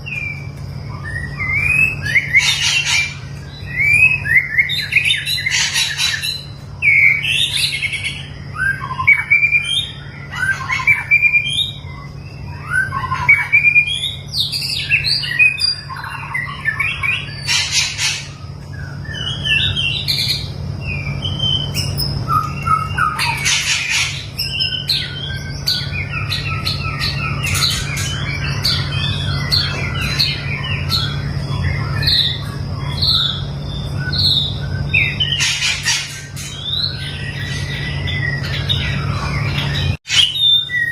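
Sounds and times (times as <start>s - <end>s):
bird singing whistled phrases: 0.0s - 40.9s
harsh bird calls: 0.0s - 40.9s
steady low hum: 0.0s - 40.9s.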